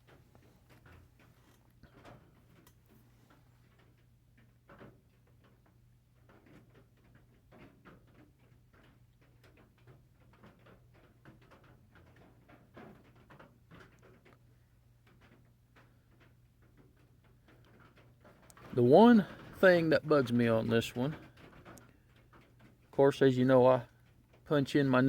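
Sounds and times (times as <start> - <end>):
small handling clicks and rustles: 0.0 - 25.0.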